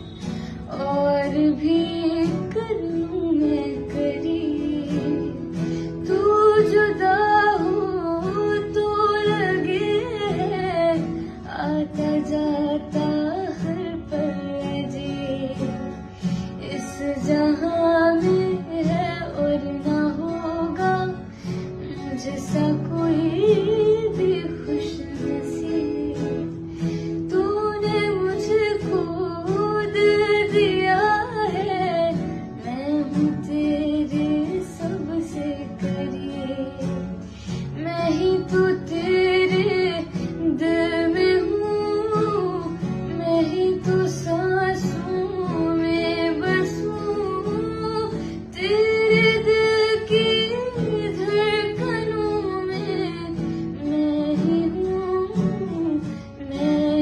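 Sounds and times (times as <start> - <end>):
plucked acoustic guitar: 0.0 - 57.0.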